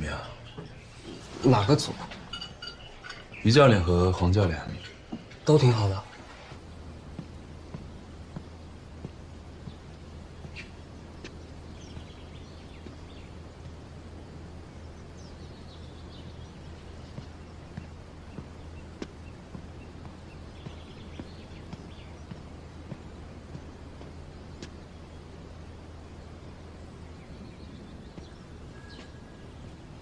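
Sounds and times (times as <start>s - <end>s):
small birds chirping: 0.0s - 30.0s
steady low hum: 0.0s - 30.0s.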